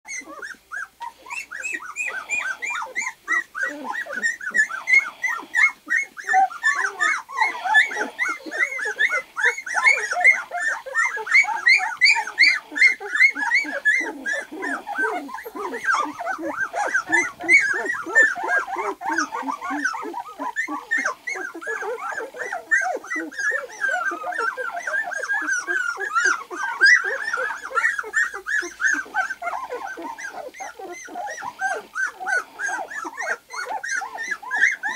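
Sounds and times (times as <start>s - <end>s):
puppies crying: 0.1s - 34.9s.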